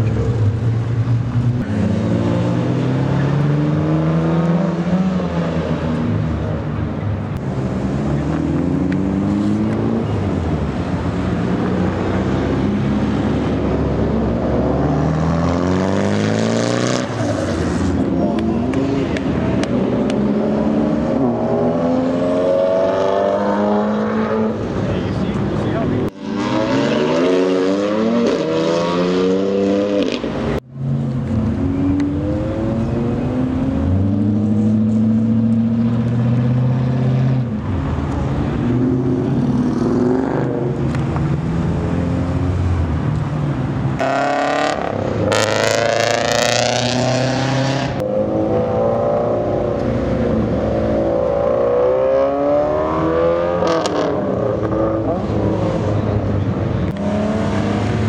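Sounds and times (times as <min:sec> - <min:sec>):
cars accelerating: 0:00.0 - 0:58.0.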